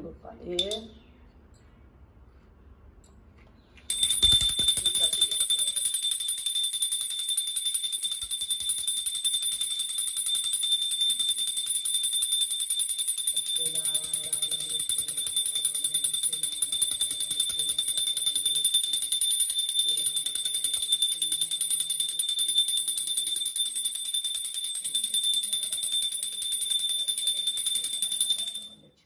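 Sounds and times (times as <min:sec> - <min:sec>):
brass hand bell ringing rapidly: 0:03.9 - 0:28.8.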